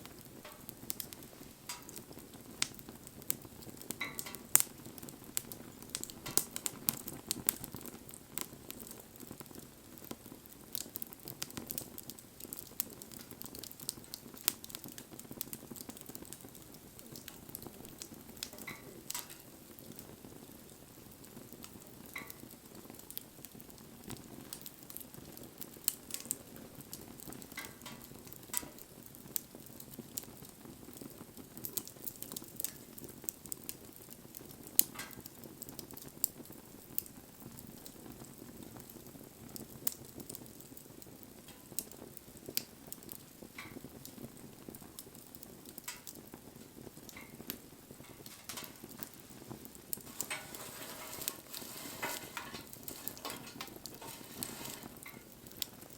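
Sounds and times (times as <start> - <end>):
bonfire burning: 0.0 - 55.9.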